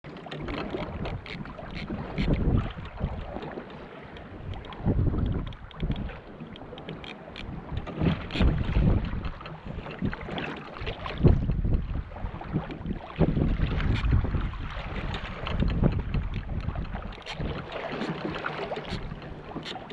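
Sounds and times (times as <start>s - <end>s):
water lapping against kayak: 0.0s - 19.9s
wind buffeting microphone: 0.3s - 19.9s.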